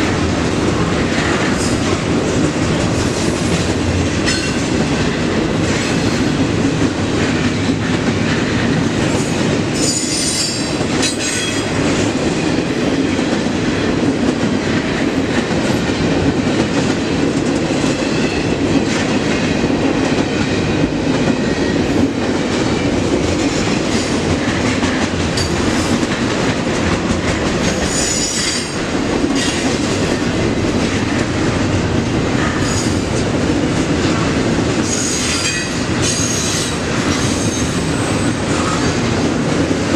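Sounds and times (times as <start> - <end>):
freight train cars rumbling: 0.0 - 39.9.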